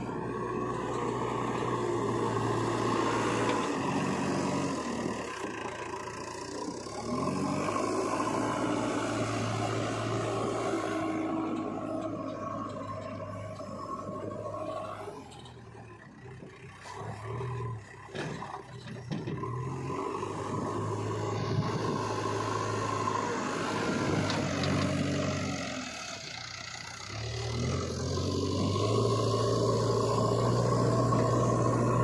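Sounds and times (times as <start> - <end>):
heavy machinery diesel engines: 0.0 - 32.0.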